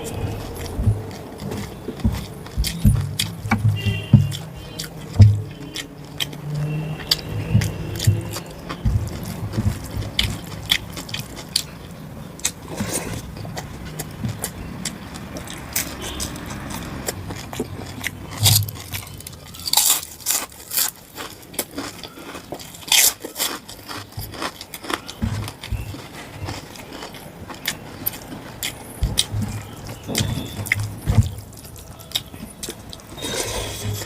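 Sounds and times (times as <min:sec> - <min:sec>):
chewing with mouth clicks: 0:00.0 - 0:34.0.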